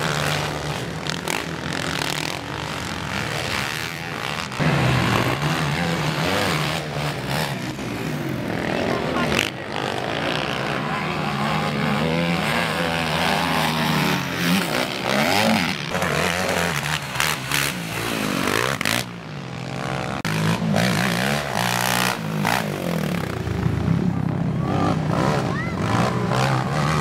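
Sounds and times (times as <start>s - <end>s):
quad bike engines revving: 0.0s - 27.0s.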